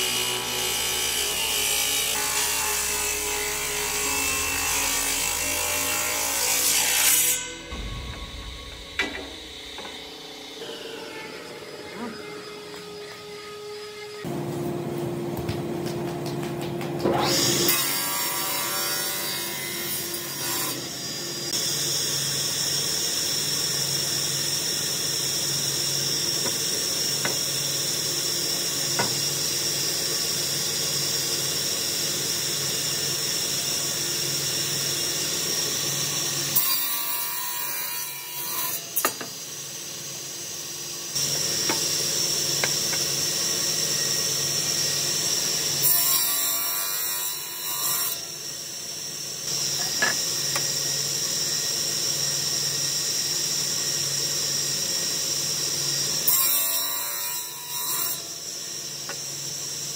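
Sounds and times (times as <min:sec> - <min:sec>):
table saw cutting wood: 0:00.0 - 0:14.4, 0:17.0 - 0:59.9.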